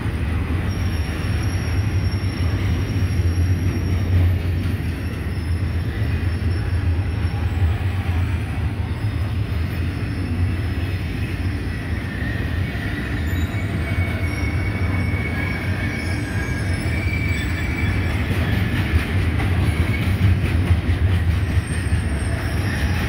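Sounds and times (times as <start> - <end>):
train wheels rumbling on track: 0.0 - 23.0
high wheel squeal: 0.2 - 20.7, 21.4 - 23.0.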